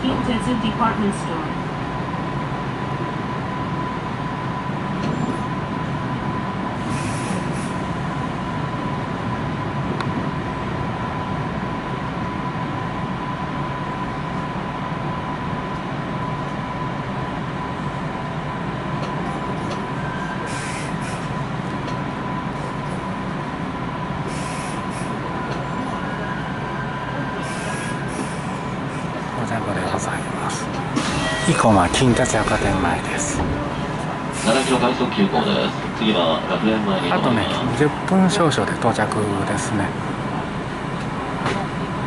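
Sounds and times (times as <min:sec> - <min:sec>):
train rumble and whine: 0:00.0 - 0:42.0.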